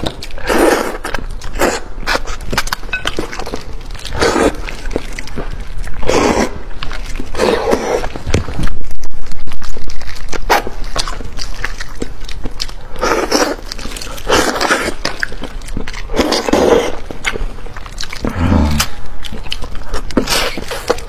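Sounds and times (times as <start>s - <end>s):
wet chewing and lip smacking: 0.0s - 21.0s.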